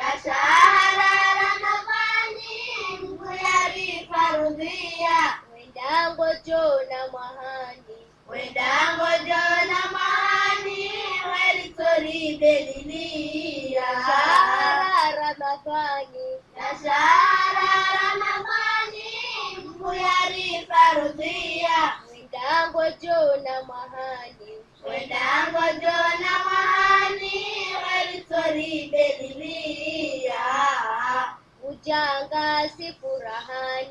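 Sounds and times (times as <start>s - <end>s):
child singing: 0.0s - 33.9s.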